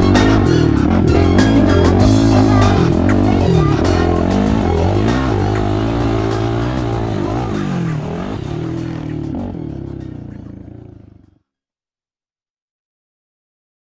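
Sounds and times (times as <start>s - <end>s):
quad engine revving: 0.0s - 11.2s
music: 0.0s - 11.5s.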